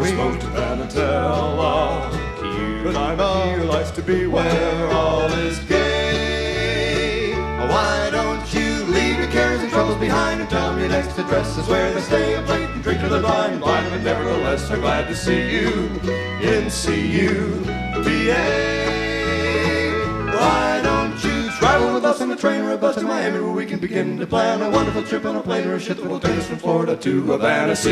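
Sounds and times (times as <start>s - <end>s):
upbeat plucked string music: 0.0s - 27.9s.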